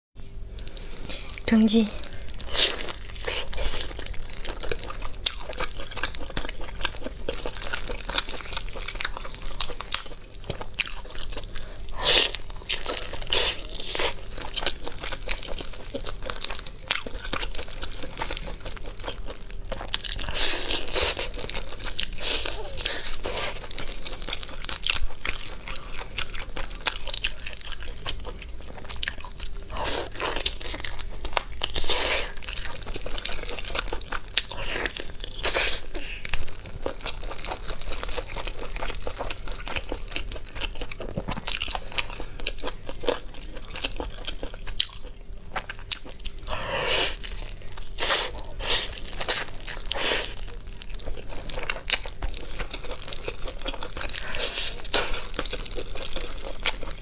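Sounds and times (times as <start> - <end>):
chewing and crunching chicken: 0.6 - 57.0.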